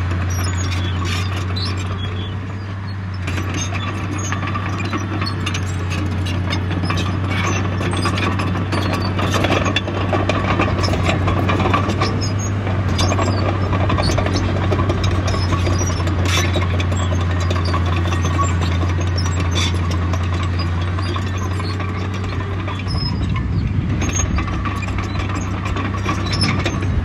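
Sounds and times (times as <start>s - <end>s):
crawler tracks clanking and squeaking: 0.0s - 27.0s
diesel engine droning: 0.0s - 27.0s.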